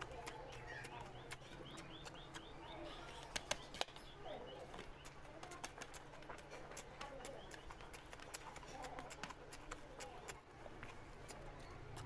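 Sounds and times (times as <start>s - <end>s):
hand mixing rice and curry: 0.0s - 12.0s
small birds chirping: 0.0s - 12.0s
wet eating smacks: 0.0s - 12.0s.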